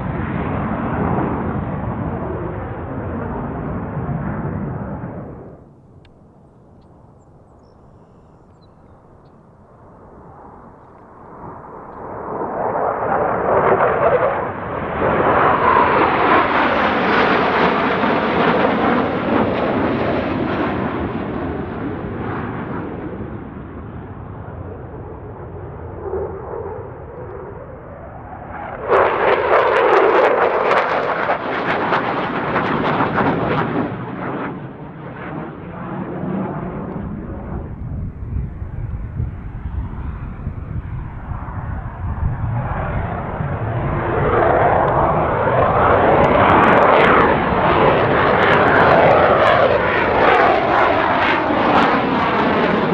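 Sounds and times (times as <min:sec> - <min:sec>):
crackling jet roar: 0:00.0 - 0:52.9
jet aircraft roaring overhead: 0:00.0 - 0:52.9.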